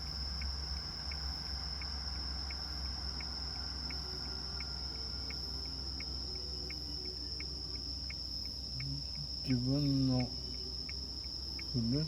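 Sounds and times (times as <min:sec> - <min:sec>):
high-pitched cricket trill: 0:00.0 - 0:12.0
lower cricket chirp: 0:00.0 - 0:12.0
steady low hum: 0:00.0 - 0:12.0.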